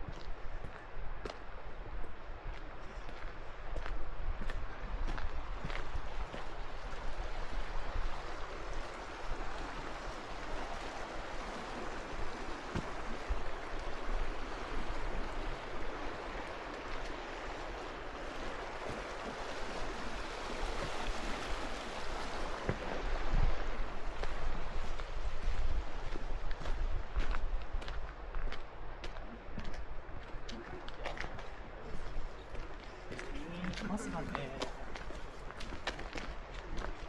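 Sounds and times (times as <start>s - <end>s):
wind on microphone: 0.0s - 37.0s
water rushing: 4.5s - 37.0s.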